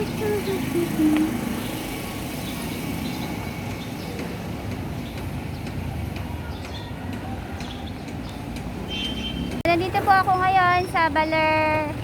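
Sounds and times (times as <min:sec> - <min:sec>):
engines and traffic rumbling: 0:00.0 - 0:12.0.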